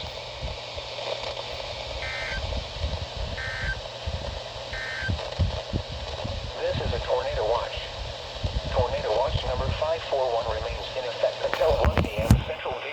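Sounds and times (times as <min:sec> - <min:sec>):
steady low rumble: 0:01.6 - 0:12.6.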